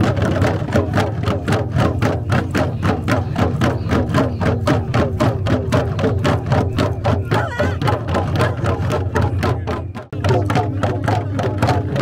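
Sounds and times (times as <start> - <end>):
hand drums beaten in rhythm: 0.0 - 12.0.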